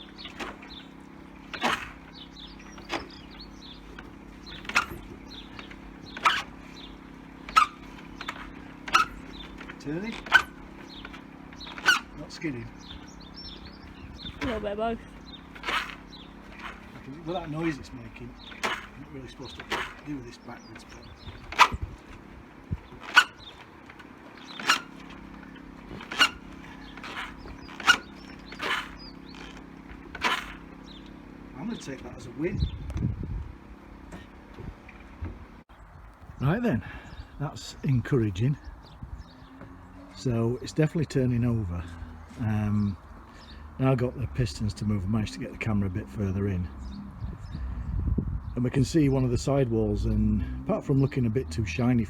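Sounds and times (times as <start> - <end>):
motorcycle drivetrain clunks: 0.0 - 52.0
steady low hum: 0.0 - 52.0
wheel squeaking: 0.0 - 52.0.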